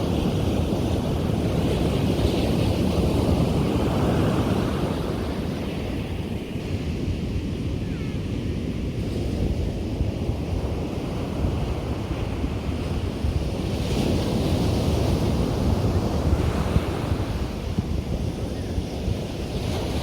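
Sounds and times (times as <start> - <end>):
ocean waves breaking: 0.0 - 20.0
wind buffeting microphone: 0.0 - 20.0.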